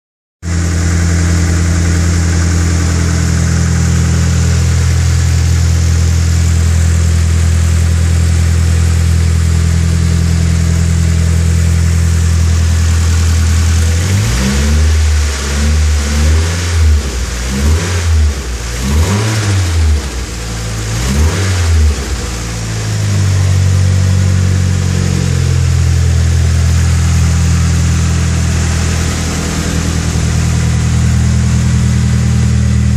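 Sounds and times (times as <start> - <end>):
car engine idling and revving: 0.4 - 32.9.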